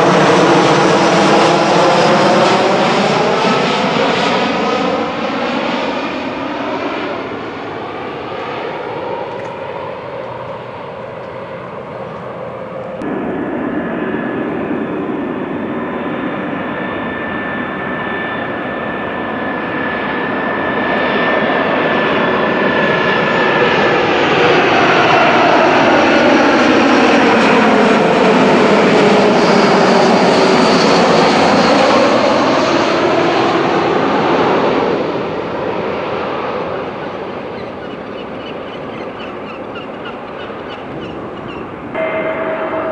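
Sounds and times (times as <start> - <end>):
jet airliner passing by: 0.0 - 42.9.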